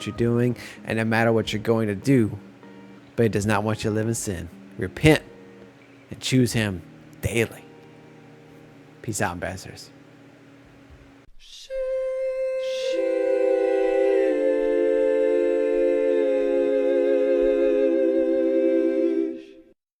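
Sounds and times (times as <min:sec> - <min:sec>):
soft sustained chord music: 0:00.0 - 0:11.2, 0:12.0 - 0:19.6.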